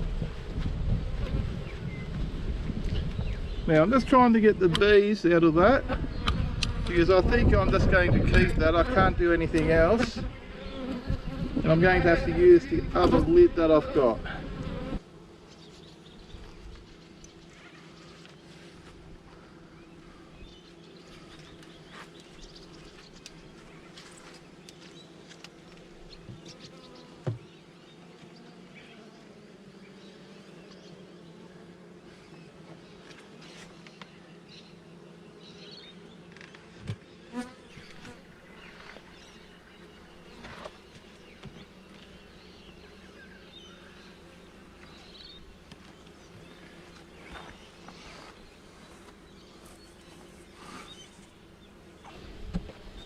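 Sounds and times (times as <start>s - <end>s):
honeybees buzzing: 0.0s - 53.0s.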